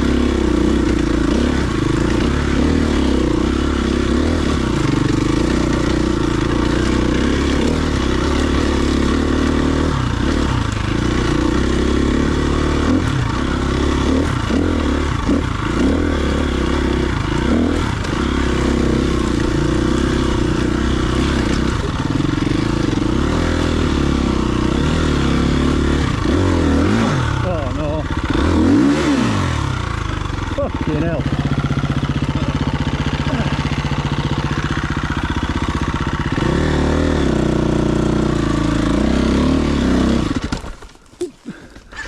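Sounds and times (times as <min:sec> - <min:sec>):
dirt bike engine running: 0:00.0 - 0:42.0.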